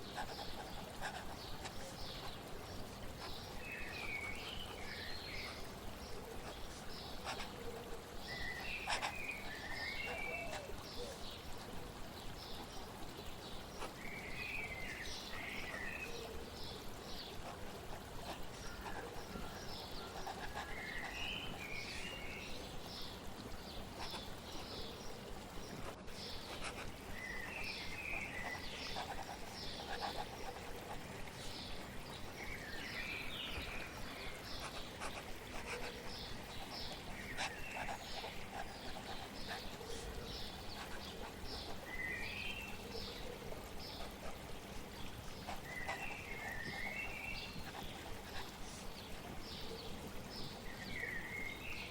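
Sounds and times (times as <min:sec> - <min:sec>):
flowing water: 0:00.0 - 0:51.9
songbirds singing: 0:00.0 - 0:51.9.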